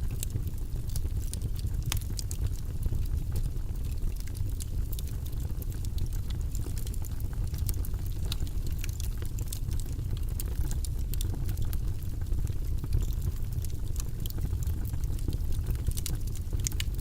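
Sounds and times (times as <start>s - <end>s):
low rumble of flames: 0.0s - 17.0s
wood logs crackling and popping: 0.0s - 17.0s.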